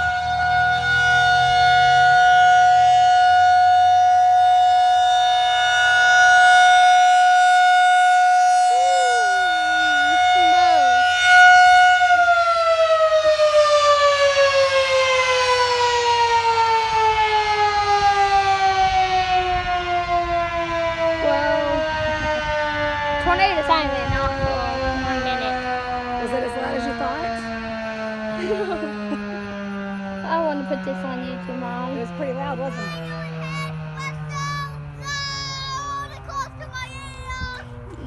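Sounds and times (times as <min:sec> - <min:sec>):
tornado warning siren: 0:00.0 - 0:38.0.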